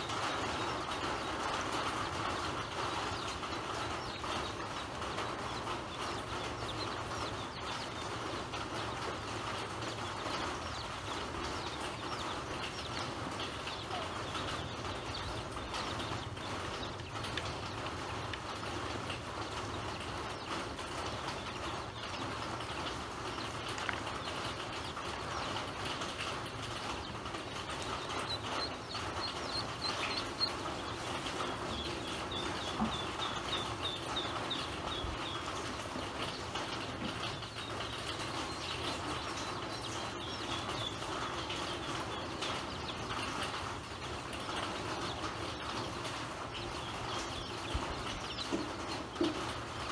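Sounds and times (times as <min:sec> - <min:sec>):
ducklings peeping: 0:00.0 - 0:49.9.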